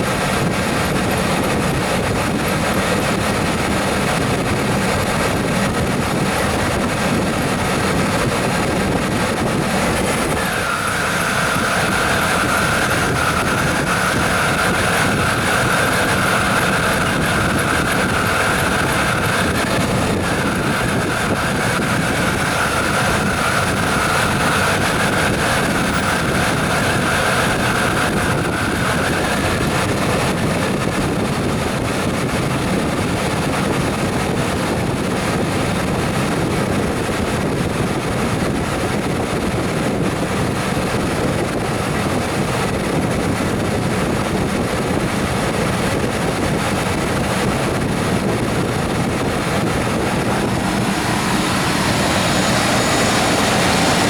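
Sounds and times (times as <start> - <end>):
truck engine running: 0.0 - 54.0
wind rustling microphone: 0.0 - 54.0.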